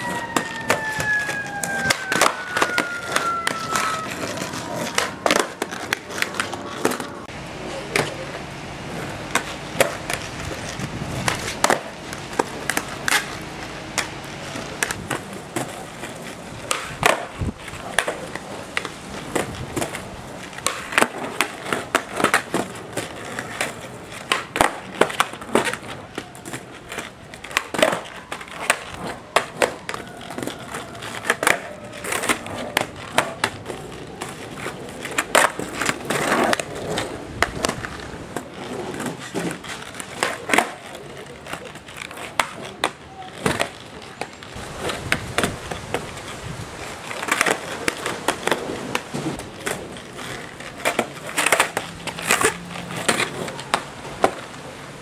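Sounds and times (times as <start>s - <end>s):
skateboard deck clacks and slaps: 0.0s - 8.4s, 9.0s - 54.7s
skateboard wheels rolling on concrete: 0.0s - 55.0s.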